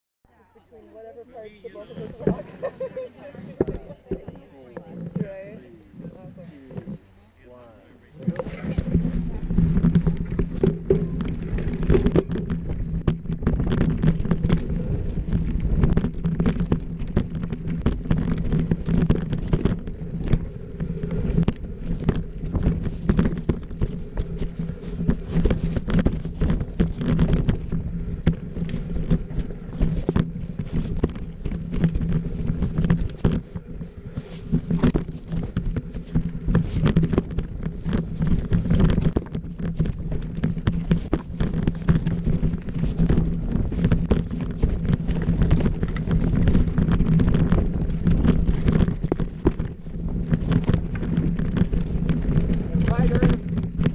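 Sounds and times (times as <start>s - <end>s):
bike rattling over rocks: 1.6s - 7.1s, 8.1s - 53.9s.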